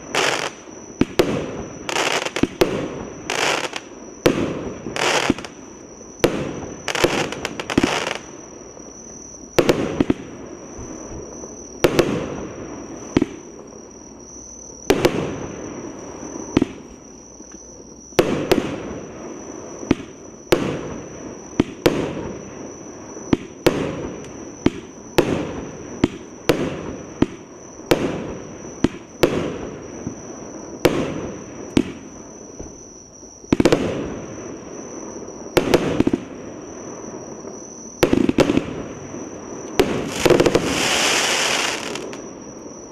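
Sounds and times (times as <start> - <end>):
firework bangs with hiss: 0.0 - 42.9.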